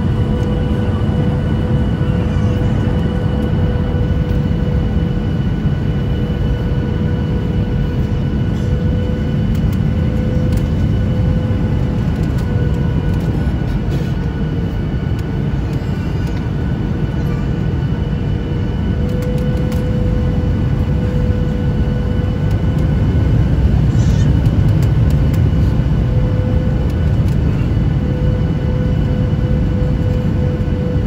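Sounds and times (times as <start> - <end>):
airflow in aircraft cabin: 0.0 - 31.0
low rumble of jet engines: 0.0 - 31.0
steady whine: 0.0 - 31.0.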